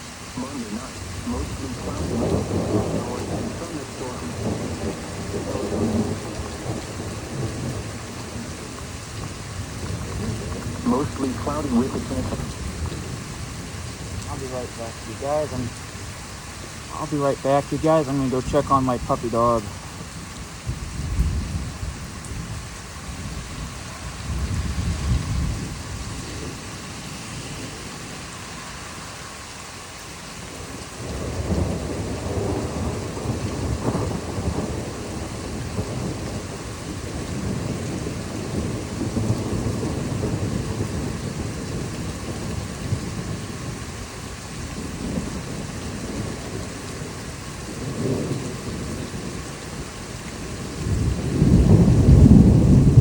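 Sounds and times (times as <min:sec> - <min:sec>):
rolling thunder: 0:00.0 - 0:28.5, 0:30.3 - 0:53.0
steady rain: 0:00.0 - 0:53.0.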